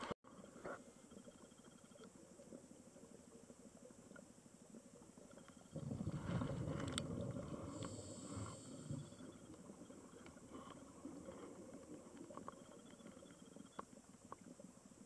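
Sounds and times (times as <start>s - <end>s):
small ticks underwater: 0.0s - 15.0s.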